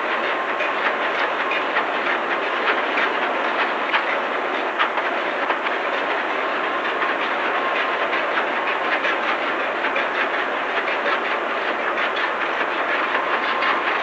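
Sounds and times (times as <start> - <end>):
marine diesel engine running: 0.0 - 14.0.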